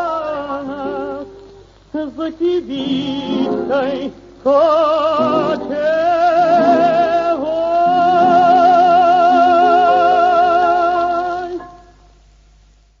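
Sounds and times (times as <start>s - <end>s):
high voice singing with vibrato: 0.0s - 12.0s.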